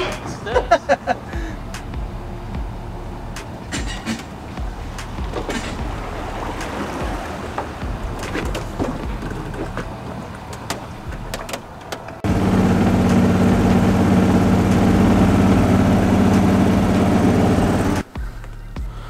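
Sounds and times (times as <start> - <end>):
outboard motor running: 1.2 - 18.0.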